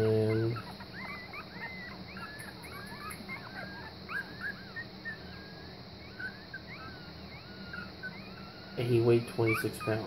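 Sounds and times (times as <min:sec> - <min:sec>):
puppies squeaking and whimpering: 0:00.0 - 0:10.0.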